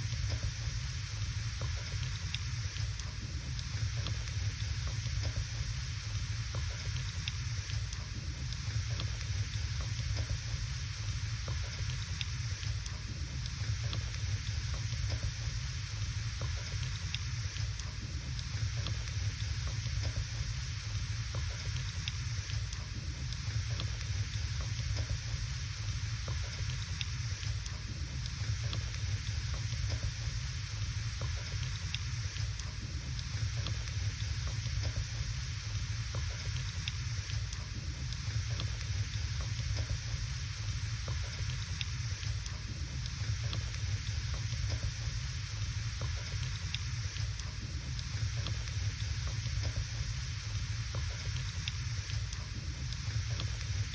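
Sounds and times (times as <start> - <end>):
fire crackles: 0.0 - 53.9
wood fire hissing and rumbling: 0.0 - 53.9.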